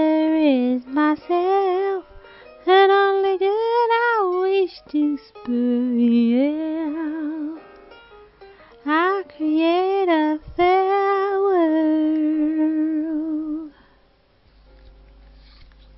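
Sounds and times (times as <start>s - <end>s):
person singing wordless melody: 0.0s - 7.8s, 8.7s - 13.8s.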